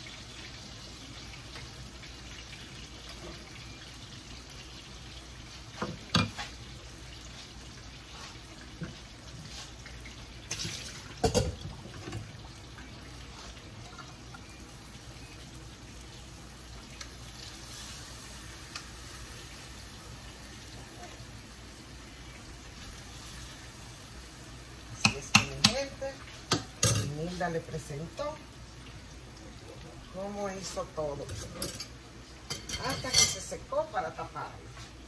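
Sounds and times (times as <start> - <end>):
pot bubbling and hissing: 0.0 - 35.0.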